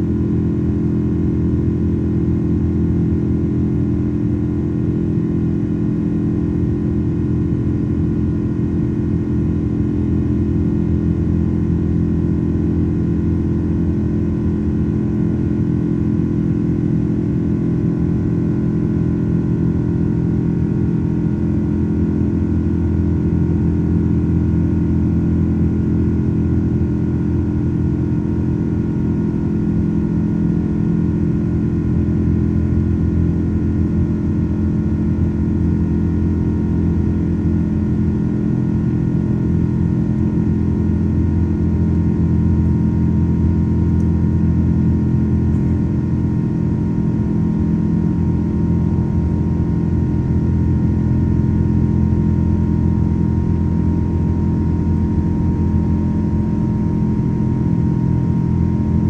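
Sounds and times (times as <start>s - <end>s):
jet engine drone inside cabin: 0.0s - 59.0s.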